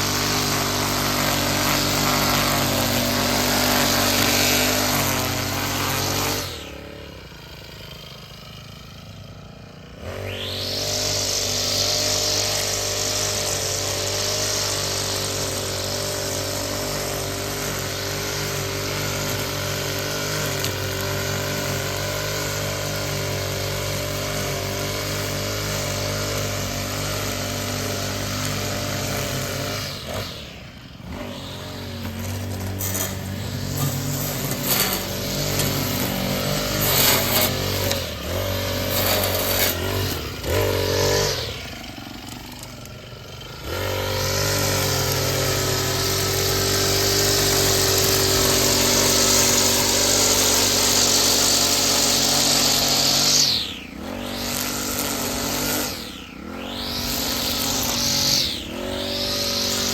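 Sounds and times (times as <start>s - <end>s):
small petrol engine revving: 0.0s - 59.9s
high hiss: 10.2s - 59.9s.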